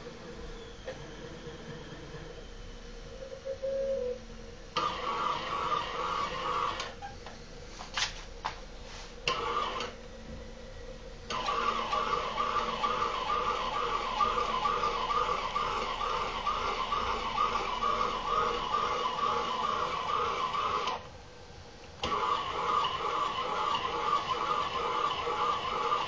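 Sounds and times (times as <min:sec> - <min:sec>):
milling machine drive pulsing: 0:00.0 - 0:07.7, 0:08.3 - 0:26.0.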